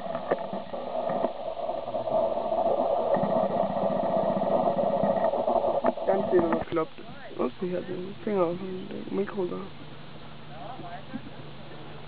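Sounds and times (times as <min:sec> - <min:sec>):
constant drone: 0:00.0 - 0:12.0.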